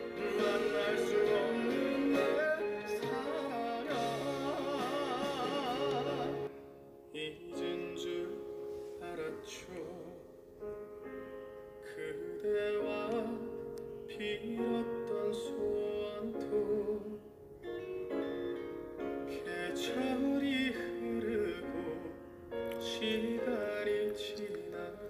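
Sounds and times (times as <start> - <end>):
song with person singing: 0.0 - 10.4, 11.9 - 17.4, 19.3 - 25.0.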